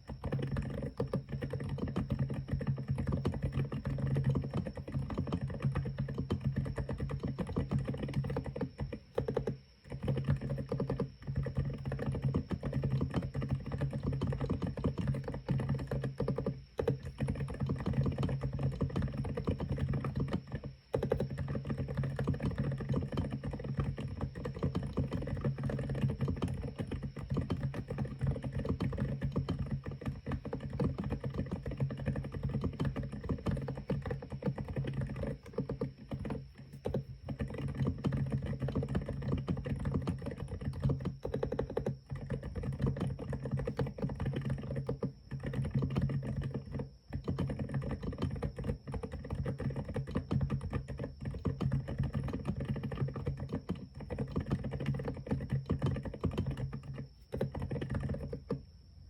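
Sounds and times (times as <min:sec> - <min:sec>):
typing on mechanical keyboard: 0:00.0 - 0:58.7.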